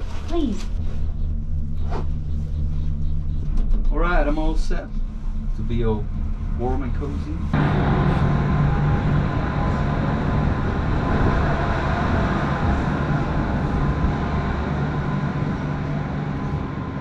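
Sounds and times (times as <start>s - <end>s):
machinery rumble and hum: 0.0s - 17.0s.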